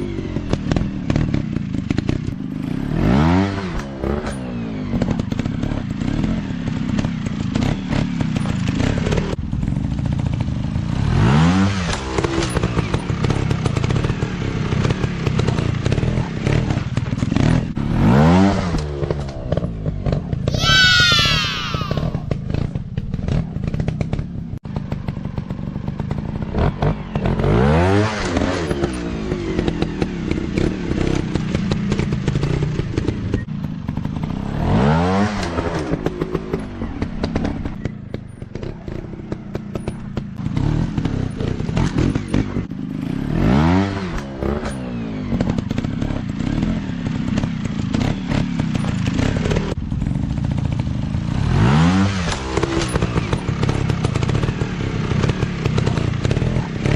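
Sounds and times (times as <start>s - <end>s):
dirt bike engines running: 0.0s - 56.9s.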